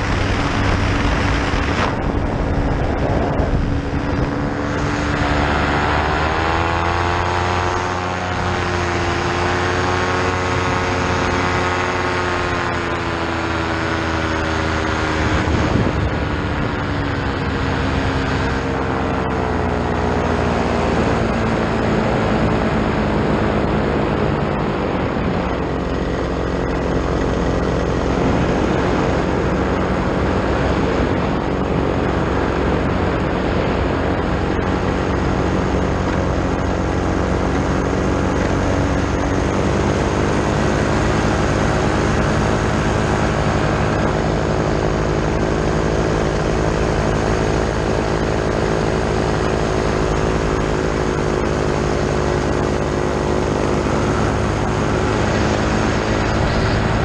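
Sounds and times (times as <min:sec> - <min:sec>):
paramotor engine driving propeller: 0:00.0 - 0:57.0.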